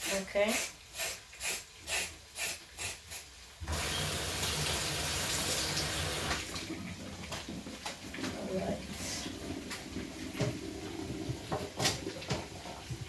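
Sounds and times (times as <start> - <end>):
tap water running: 0.0 - 13.0.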